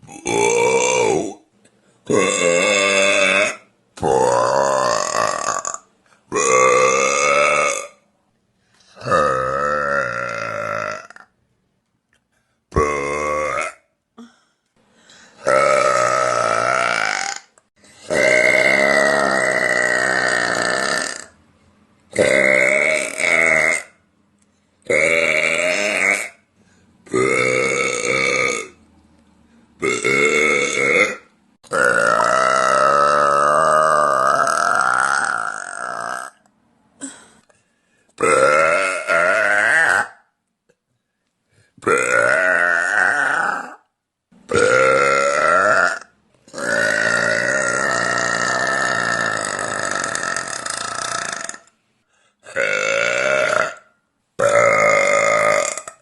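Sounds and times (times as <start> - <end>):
woman burping loudly: 0.0 - 1.4, 2.1 - 8.0, 9.0 - 11.4, 12.7 - 14.4, 15.4 - 21.4, 22.1 - 24.0, 24.9 - 26.4, 27.1 - 28.8, 29.8 - 37.4, 38.2 - 40.3, 41.8 - 43.9, 44.5 - 51.7, 52.4 - 56.0.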